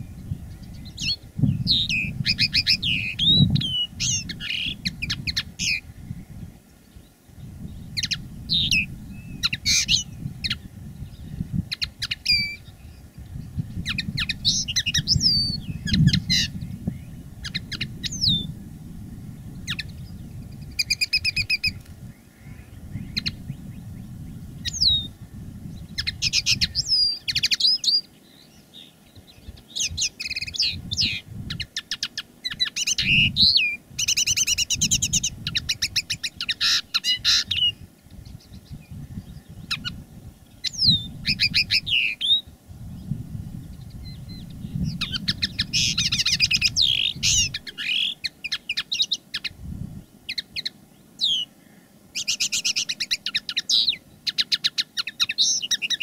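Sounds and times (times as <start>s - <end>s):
bird twittering and trilling song: 0.0s - 56.0s.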